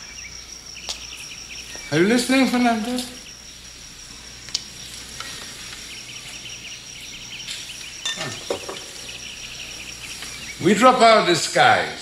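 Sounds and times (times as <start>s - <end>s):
insect chirping: 0.0s - 12.0s
steady hiss: 0.0s - 12.0s.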